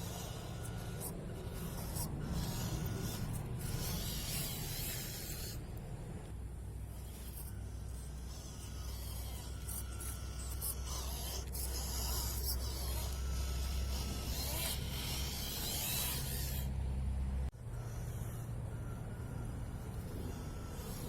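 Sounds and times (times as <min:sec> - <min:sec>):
toy truck electric motor: 0:00.0 - 0:21.0.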